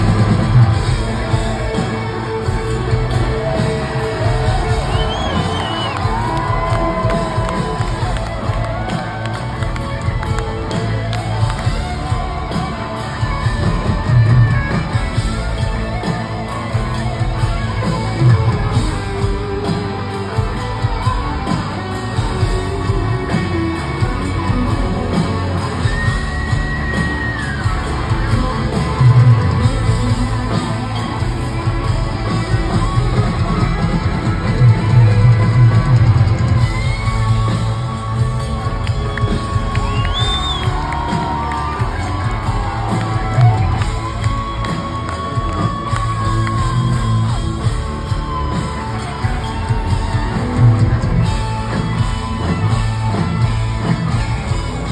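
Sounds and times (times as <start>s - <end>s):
bass guitar: 0.0s - 54.9s
drums: 0.0s - 54.9s.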